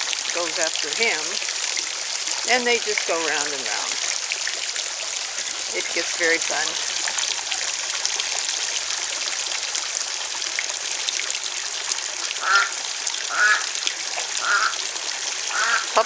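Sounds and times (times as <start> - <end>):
small waterfall splashing: 0.0 - 16.0.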